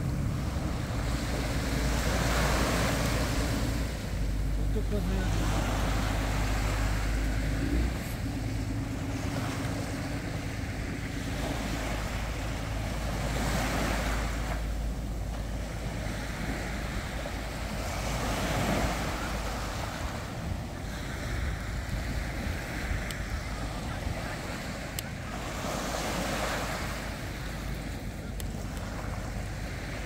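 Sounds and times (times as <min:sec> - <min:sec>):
wind on microphone: 0:00.0 - 0:04.6, 0:05.2 - 0:30.0
small waves breaking on beach: 0:00.0 - 0:30.0.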